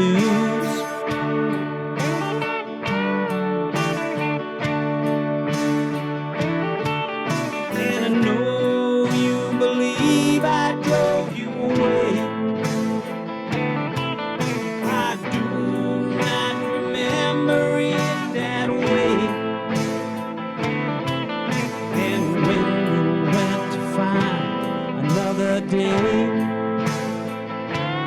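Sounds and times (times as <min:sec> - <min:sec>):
lead guitar melody with bending notes: 0:00.0 - 0:28.0
plucked guitar chords: 0:00.0 - 0:28.0.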